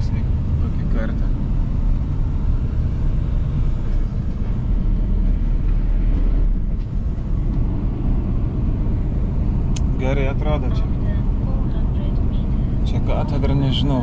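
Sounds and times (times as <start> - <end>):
lorry engine and tyre rumble: 0.0 - 14.0.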